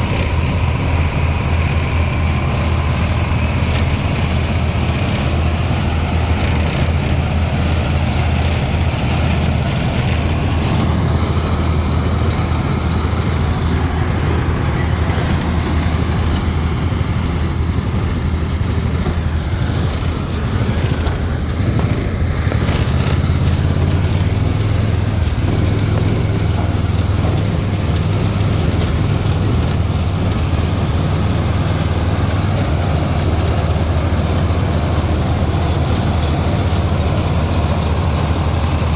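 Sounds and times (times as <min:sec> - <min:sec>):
corn picker working: 0:00.0 - 0:38.9
tractor engine drone: 0:00.0 - 0:38.9.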